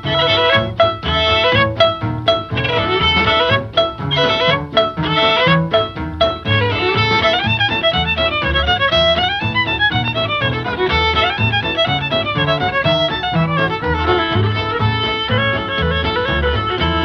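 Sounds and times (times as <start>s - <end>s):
lively fiddle tune: 0.0s - 17.0s
steady bass beat: 0.0s - 17.0s.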